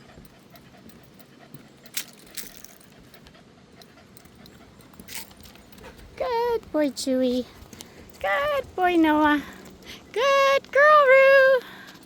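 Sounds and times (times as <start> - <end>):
dogs panting: 0.0 - 10.2.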